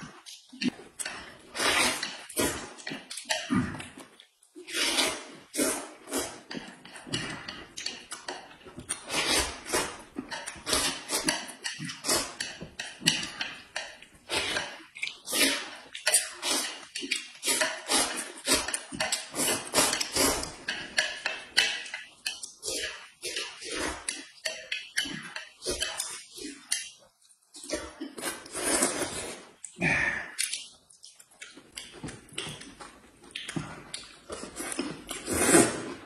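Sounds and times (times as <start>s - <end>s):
noodles being slurped and chewed: 0.0s - 36.0s.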